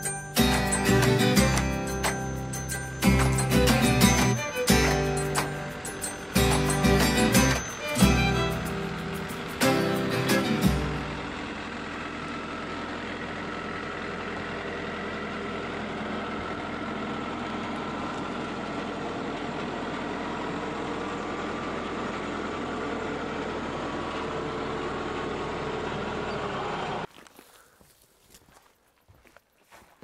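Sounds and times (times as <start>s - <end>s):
tractor engine running: 0.0s - 27.2s.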